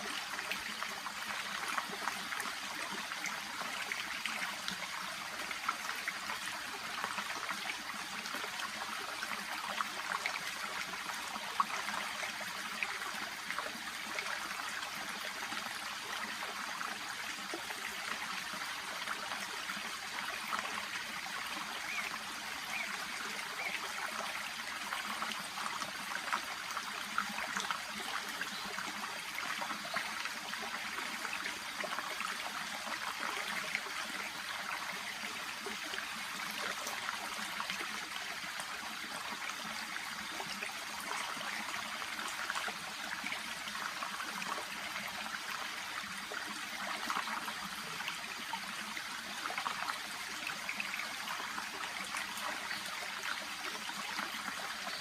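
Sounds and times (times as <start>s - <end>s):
brook babbling: 0.0s - 55.0s.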